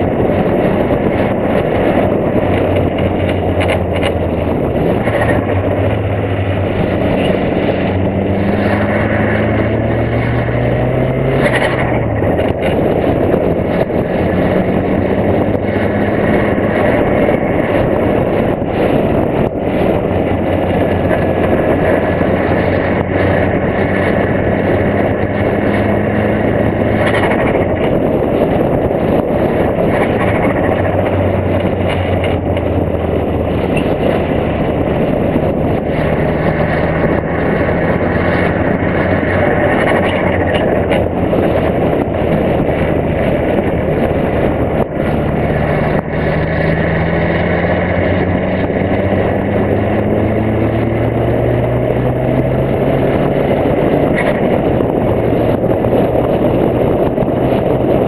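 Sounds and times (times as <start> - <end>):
car engine accelerating: 0.0 - 58.0
road noise: 0.0 - 58.0
wind noise: 0.0 - 58.0.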